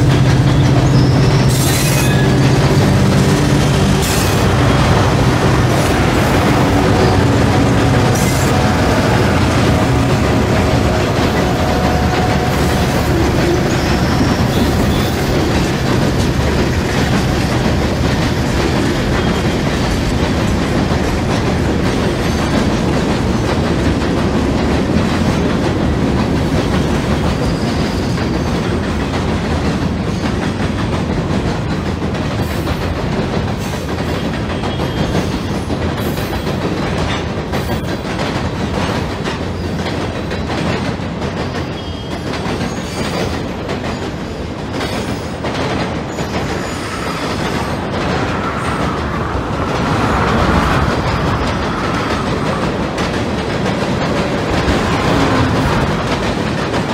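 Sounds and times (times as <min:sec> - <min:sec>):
model train wheels clattering on rail: 0:00.0 - 0:49.2.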